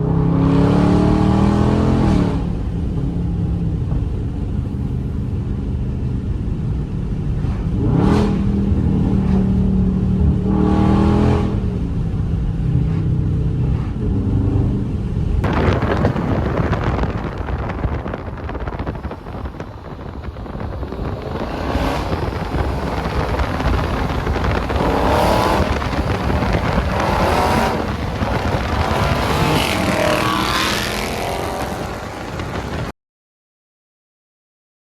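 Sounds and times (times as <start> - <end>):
car engine revving: 0.0 - 5.5, 6.4 - 32.9
rushing wind and road noise: 0.0 - 32.9.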